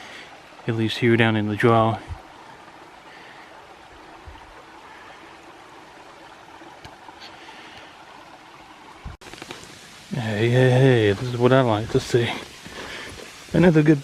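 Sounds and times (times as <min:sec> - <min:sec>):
creek running: 0:00.0 - 0:14.0.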